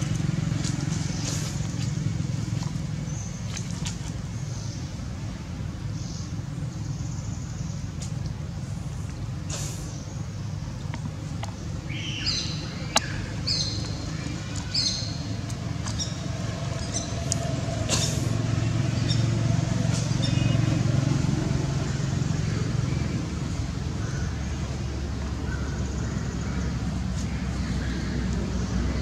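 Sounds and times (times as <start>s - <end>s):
low rumble of distant traffic: 0.0s - 29.0s.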